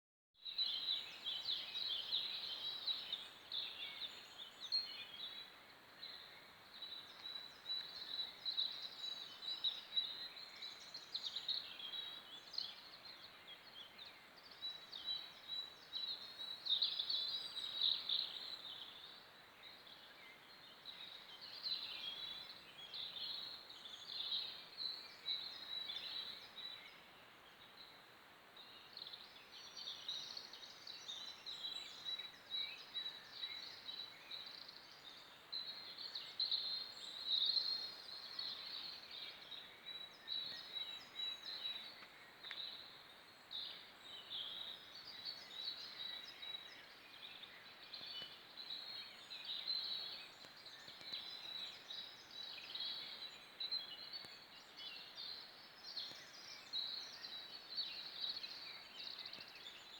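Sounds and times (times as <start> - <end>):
songbirds chirping and trilling: 0.4 - 59.9.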